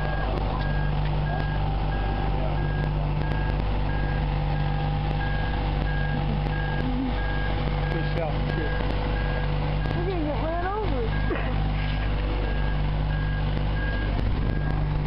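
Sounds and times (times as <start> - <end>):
warning alarm beeping: 0.0 - 11.4, 12.4 - 14.8
engine humming: 0.0 - 15.0.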